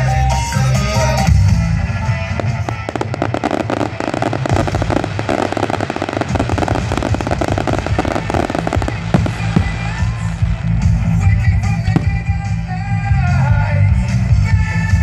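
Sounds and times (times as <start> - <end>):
fireworks bangs and crackling: 0.8 - 13.5.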